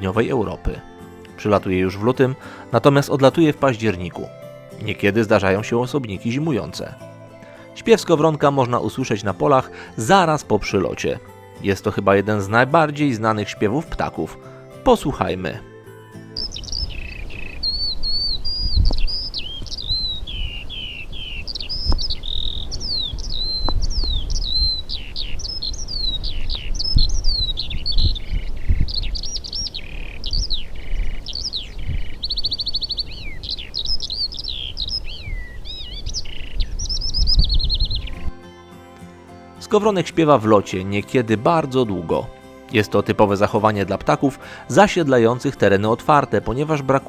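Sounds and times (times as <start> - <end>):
skylark singing: 0.0 - 47.0.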